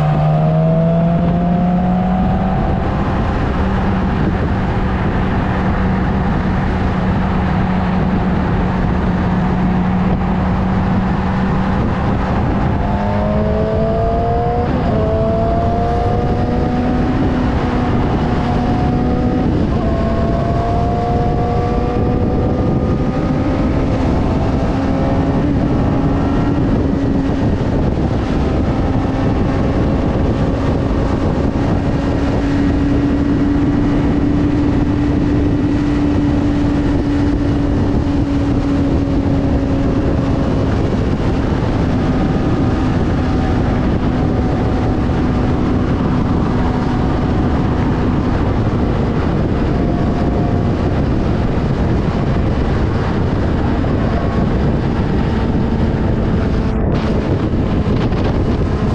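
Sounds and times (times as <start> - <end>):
motorcycle engine accelerating: 0.0 - 58.9
road noise: 0.0 - 58.9
rushing wind: 0.0 - 58.9.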